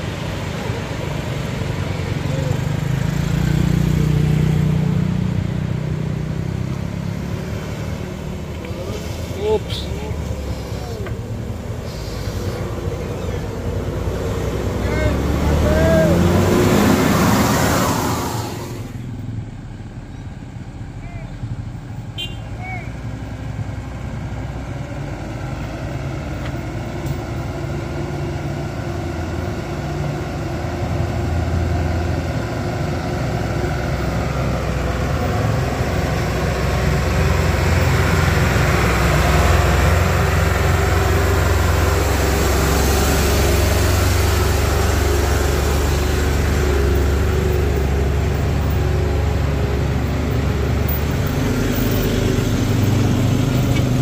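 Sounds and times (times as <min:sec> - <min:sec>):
heavy vehicle engine climbing: 0:00.0 - 0:54.0.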